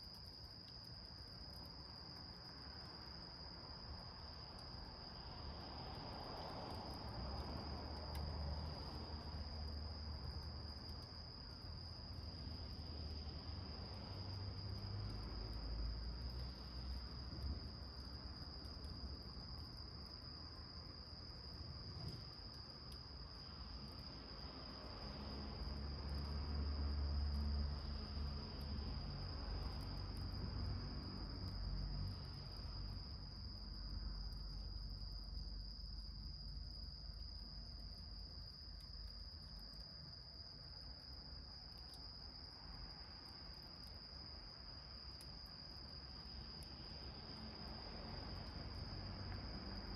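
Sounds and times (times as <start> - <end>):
crickets trilling: 0.0 - 49.9.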